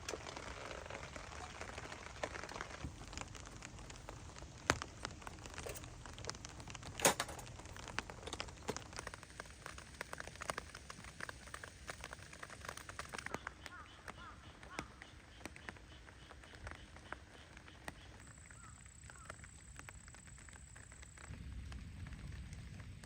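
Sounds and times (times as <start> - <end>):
rain falling: 0.0 - 23.0
sharp ticks and crackles: 0.0 - 23.0.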